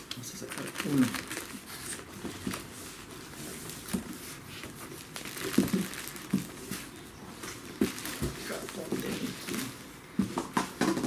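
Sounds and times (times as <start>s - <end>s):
plastic wrap crinkling: 0.0s - 10.0s.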